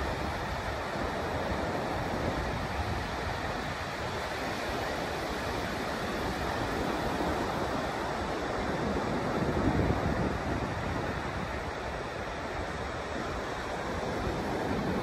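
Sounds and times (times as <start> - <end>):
ocean surf breaking on beach: 0.0 - 15.0
wind rumbling on microphone: 0.0 - 15.0.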